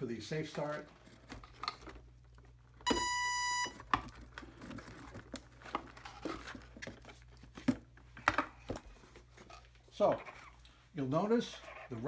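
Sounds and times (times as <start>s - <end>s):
clicks and handling noise: 0.4s - 3.1s, 3.7s - 10.8s.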